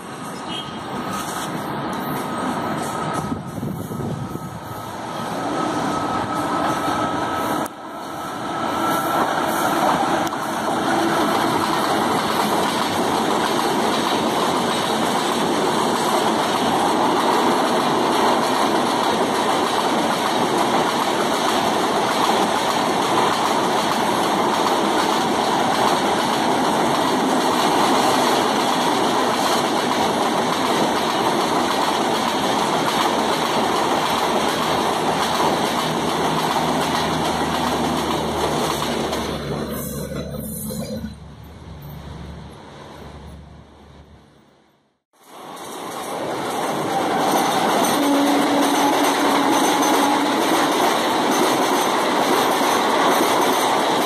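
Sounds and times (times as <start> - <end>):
train coaches rolling on rails: 0.0 - 44.6, 45.2 - 54.0.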